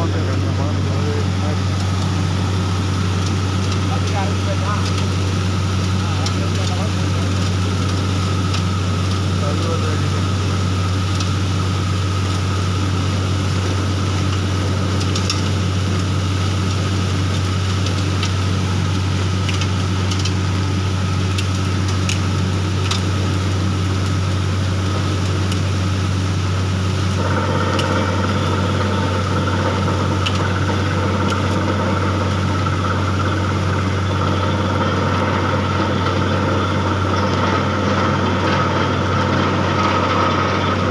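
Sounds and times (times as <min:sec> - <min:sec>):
drilling rig engine hum: 0:00.0 - 0:40.9.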